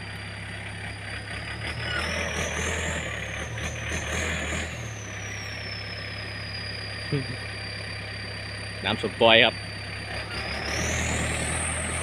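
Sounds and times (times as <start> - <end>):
diesel tractor engine under load: 0.0 - 12.0
high whine: 0.0 - 12.0.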